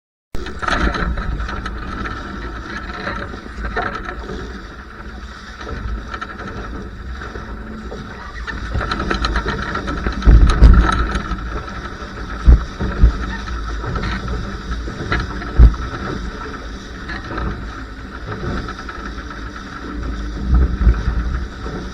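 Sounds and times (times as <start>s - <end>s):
water splashing along hull: 0.4s - 21.9s
wind buffeting microphone: 0.4s - 21.9s.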